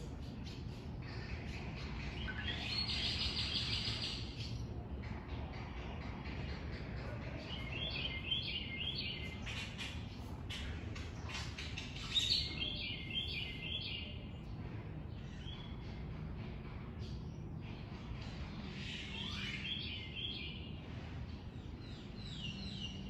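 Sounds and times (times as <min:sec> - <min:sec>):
birds chirping: 0:00.0 - 0:23.0
low background rumble: 0:00.0 - 0:23.0.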